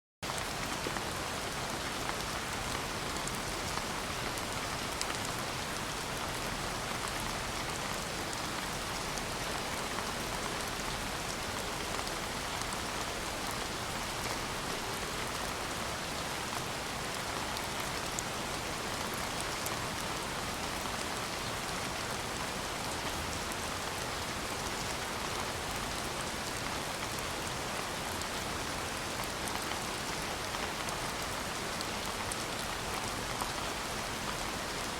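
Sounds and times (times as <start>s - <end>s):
steady rain falling: 0.2s - 34.9s.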